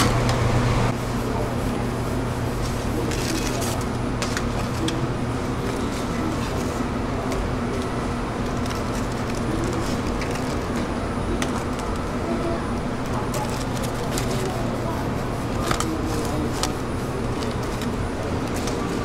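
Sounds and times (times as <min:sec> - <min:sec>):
machinery hum and hiss: 0:00.0 - 0:19.0.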